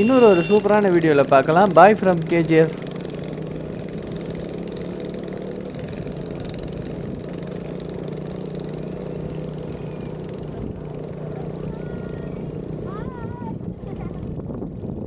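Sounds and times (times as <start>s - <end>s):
engine idling: 0.0s - 14.1s.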